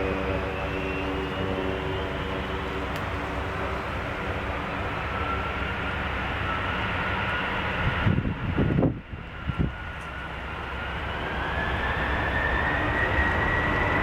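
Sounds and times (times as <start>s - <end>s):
jet engine roar with whine: 0.0s - 14.0s.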